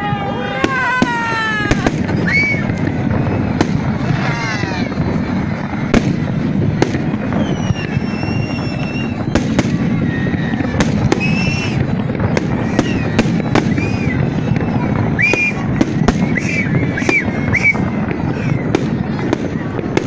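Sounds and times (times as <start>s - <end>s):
fireworks bangs: 0.0s - 20.0s
fireworks crackling: 0.0s - 20.0s
high whistling fireworks: 0.0s - 20.0s.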